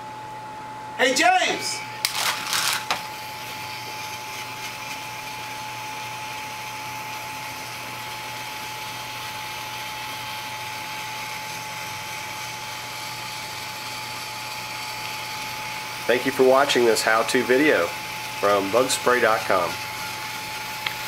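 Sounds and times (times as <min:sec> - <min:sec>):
small motor whirring: 0:02.0 - 0:21.0.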